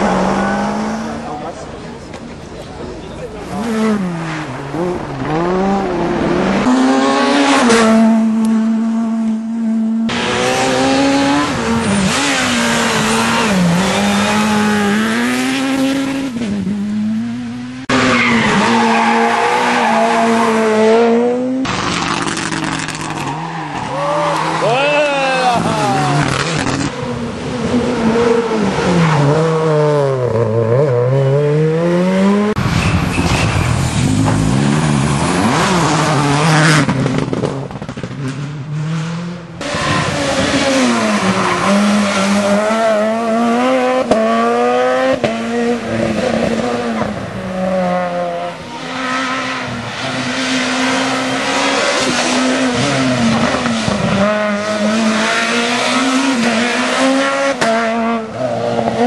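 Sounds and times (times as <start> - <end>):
rally car engines revving hard: 3.1 - 59.0.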